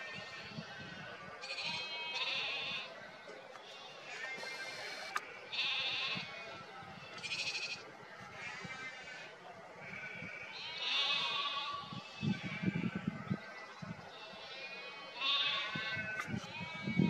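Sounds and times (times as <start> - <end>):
wavering bleating animal calls: 0.0 - 3.0, 3.7 - 17.0.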